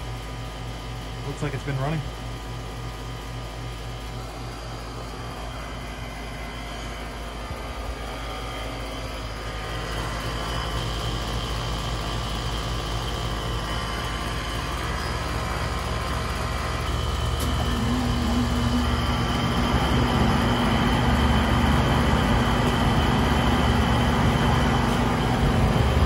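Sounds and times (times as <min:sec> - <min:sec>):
compressor hum: 0:00.0 - 0:26.0
condenser fans rushing: 0:00.0 - 0:26.0.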